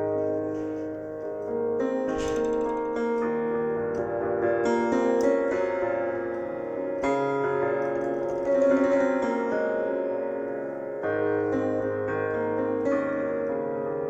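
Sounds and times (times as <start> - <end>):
piano playing chords: 0.0 - 14.0.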